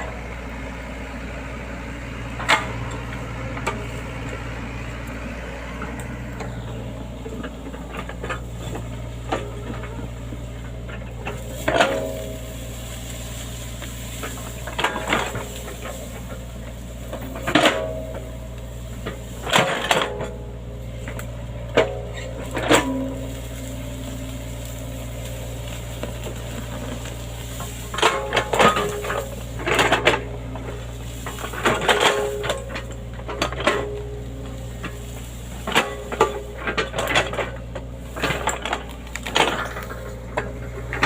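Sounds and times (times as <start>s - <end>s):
excavator diesel engine running: 0.0s - 41.0s
metallic clanks and knocks: 2.3s - 4.4s, 5.8s - 41.0s.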